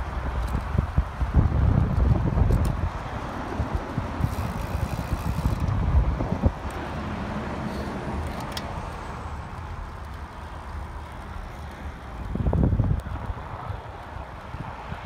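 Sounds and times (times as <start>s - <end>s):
low road rumble of car: 0.0s - 15.0s
wind buffeting microphone: 0.0s - 15.0s.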